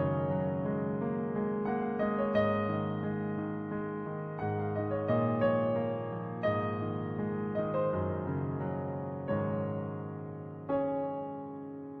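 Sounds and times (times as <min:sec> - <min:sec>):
soft piano chord: 0:00.0 - 0:12.0.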